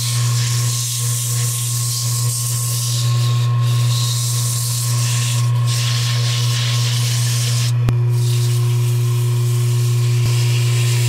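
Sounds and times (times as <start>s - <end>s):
sandpaper hissing on spinning wood: 0.0s - 11.0s
wood lathe humming: 0.0s - 11.0s.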